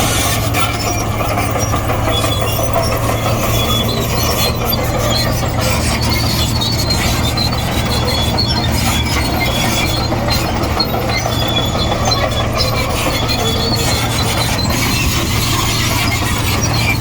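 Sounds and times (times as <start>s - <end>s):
diesel engine droning: 0.0s - 17.0s
steel tracks clanking: 0.0s - 17.0s
tracks squeaking: 0.0s - 17.0s.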